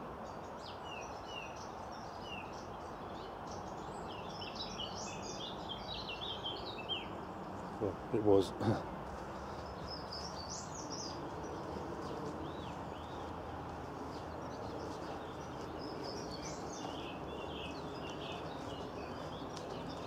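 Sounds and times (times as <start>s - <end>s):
wild birds singing: 0.0s - 20.0s.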